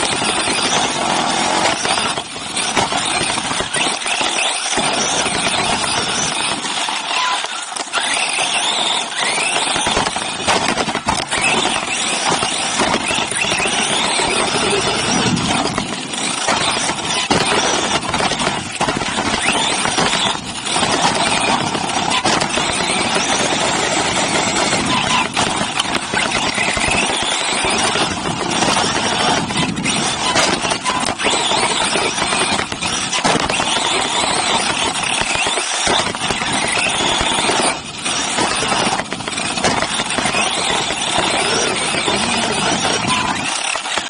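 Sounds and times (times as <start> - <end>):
rc car drivetrain whine: 0.0 - 44.0
tyres on dirt: 0.0 - 44.0.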